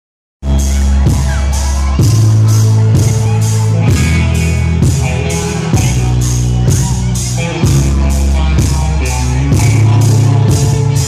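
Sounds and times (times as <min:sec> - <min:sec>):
bass notes: 0:00.4 - 0:11.0
drum kit: 0:00.4 - 0:11.0
electric guitar: 0:00.4 - 0:11.0.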